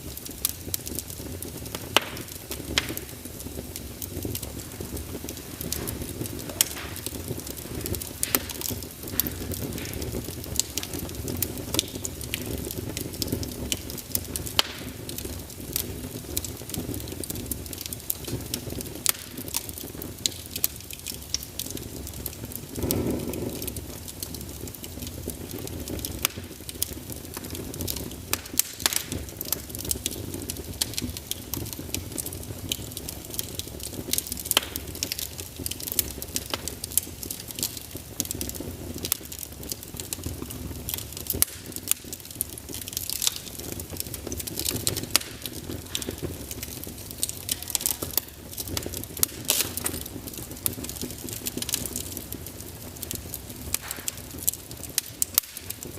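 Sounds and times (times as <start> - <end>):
logs crackling and popping: 0.0 - 55.9
wood fire rumbling and hissing: 0.0 - 55.9.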